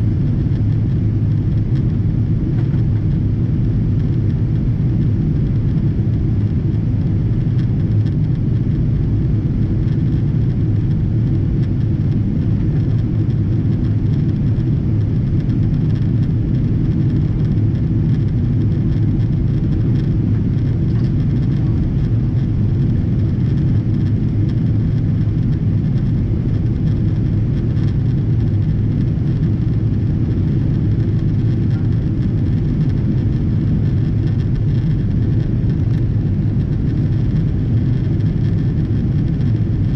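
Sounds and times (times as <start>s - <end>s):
jet engine rumble inside cabin: 0.0s - 39.9s.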